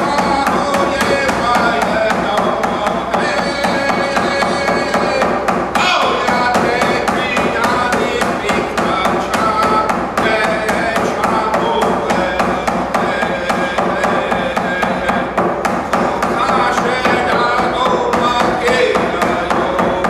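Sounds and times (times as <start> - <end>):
frame drum beating: 0.0 - 20.0
man singing: 0.0 - 20.0.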